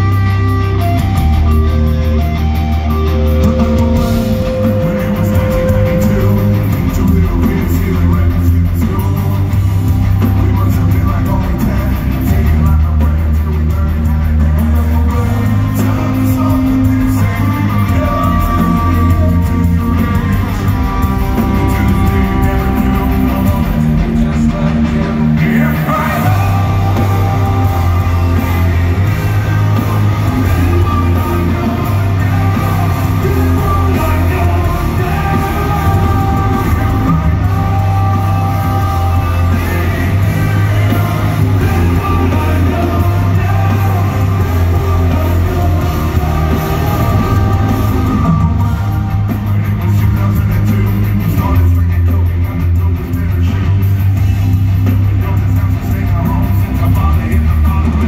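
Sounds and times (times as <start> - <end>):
live rock band playing: 0.0 - 58.0
lead vocals singing: 2.4 - 58.0.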